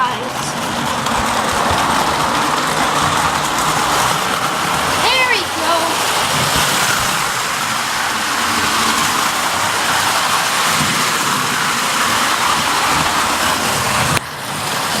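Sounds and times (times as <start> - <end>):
wind-up toy train whirring: 0.0 - 15.0.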